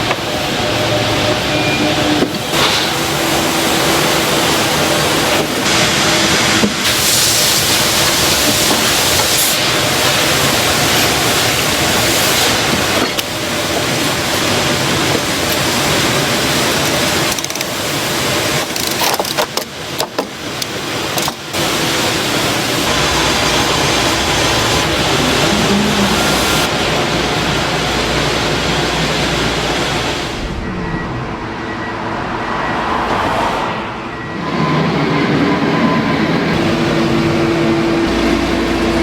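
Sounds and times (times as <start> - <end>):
factory machinery running: 0.0 - 39.0.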